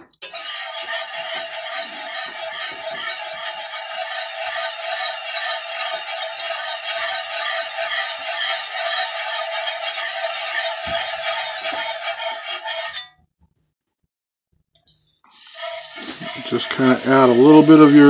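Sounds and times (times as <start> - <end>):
whisk scraping a skillet: 0.0 - 13.2, 15.3 - 18.0.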